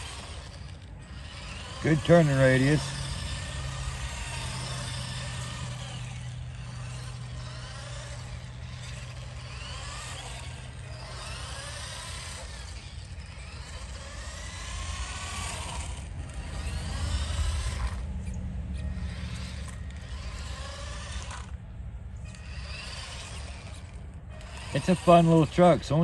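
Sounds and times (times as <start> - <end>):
toy truck electric motor whining: 0.0 - 26.0.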